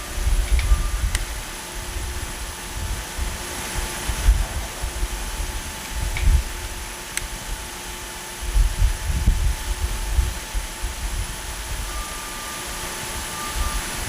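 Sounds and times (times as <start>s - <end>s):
steady hiss: 0.0s - 14.0s
wind buffeting microphone: 0.0s - 14.0s.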